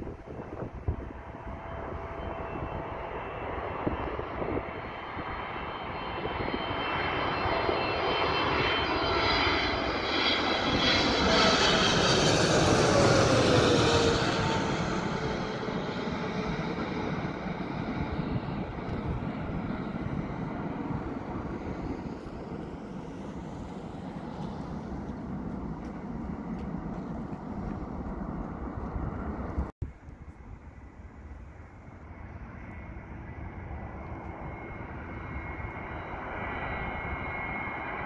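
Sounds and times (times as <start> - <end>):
jet airliner passing overhead: 0.0 - 38.0.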